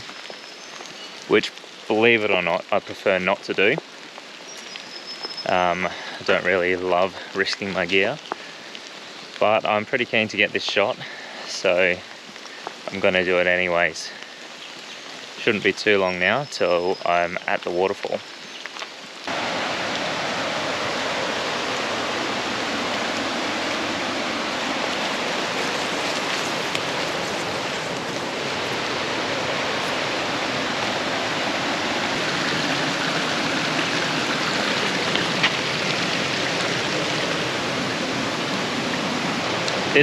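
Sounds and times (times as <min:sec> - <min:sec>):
small waterfall splashing: 0:00.0 - 0:16.0, 0:18.6 - 0:40.0.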